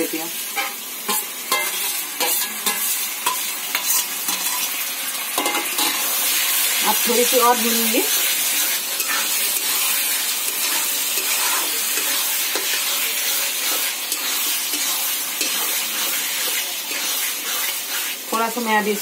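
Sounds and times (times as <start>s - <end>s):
food sizzling in a pan: 0.0s - 19.0s
spatula stirring and scraping: 0.6s - 4.8s, 5.4s - 19.0s.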